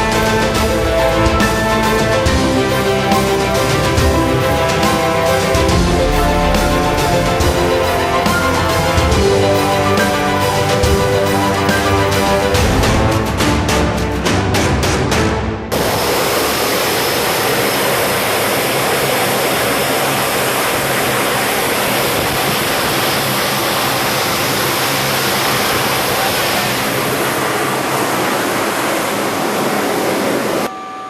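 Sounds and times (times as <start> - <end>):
turboprop engines roaring: 0.0 - 31.0.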